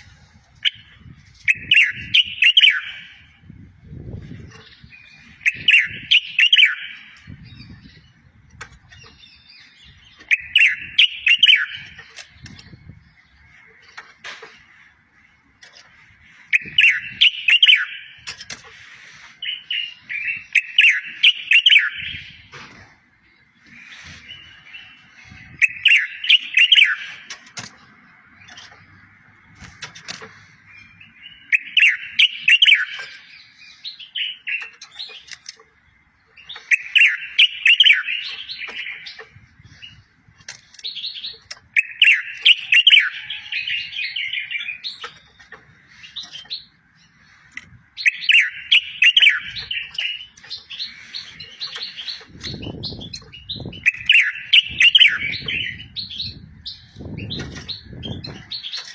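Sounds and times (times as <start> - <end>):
songbird whistling song: 0.6 - 8.2, 8.8 - 13.7, 15.7 - 18.2, 19.4 - 22.7, 23.3 - 27.4, 29.8 - 35.6, 36.2 - 58.9.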